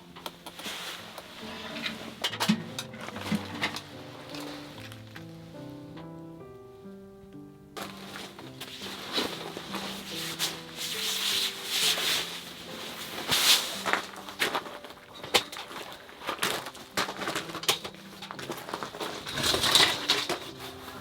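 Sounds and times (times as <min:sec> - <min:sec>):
camp cot fabric rustling and scraping: 0:00.0 - 0:05.7, 0:07.8 - 0:21.0
soft background music: 0:00.0 - 0:21.0.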